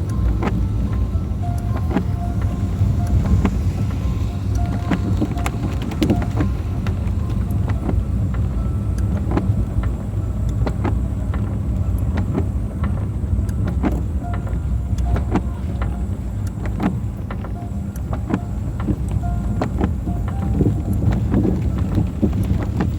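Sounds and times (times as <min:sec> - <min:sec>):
car road rumble: 0:00.0 - 0:22.9.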